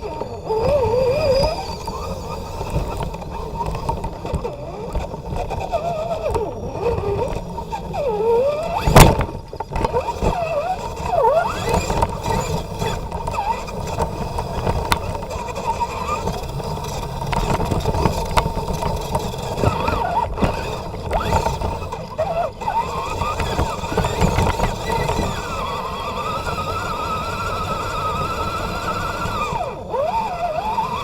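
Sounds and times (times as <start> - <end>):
electric motor whining: 0.0 - 31.0
tyres rumbling on terrain: 0.0 - 31.0.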